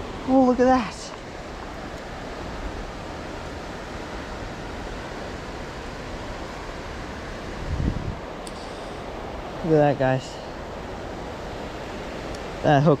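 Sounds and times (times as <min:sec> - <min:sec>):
flowing creek: 0:00.0 - 0:13.0.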